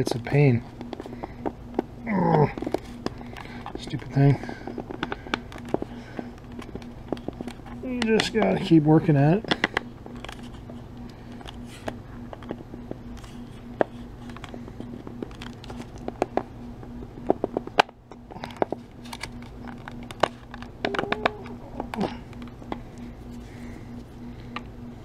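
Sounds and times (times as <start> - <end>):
faint low hum: 0.0 - 25.0
plastic case clicking and creaking: 0.7 - 16.5, 17.2 - 22.8.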